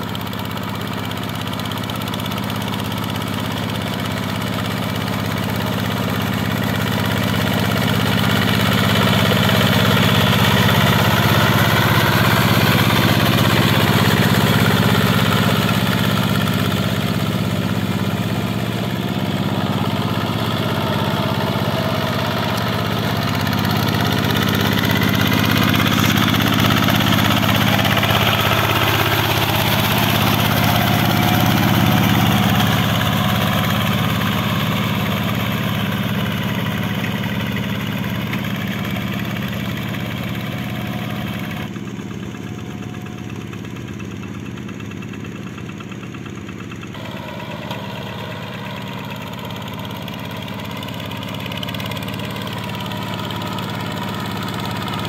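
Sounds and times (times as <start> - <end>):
diesel hand tractor engine running: 0.0 - 55.0
wheels working flooded paddy: 0.0 - 55.0.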